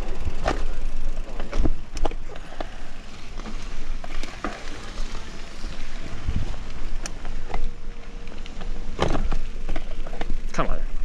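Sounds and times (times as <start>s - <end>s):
bike knocking and rattling: 0.0s - 11.0s
bike tyres rumbling: 0.0s - 11.0s.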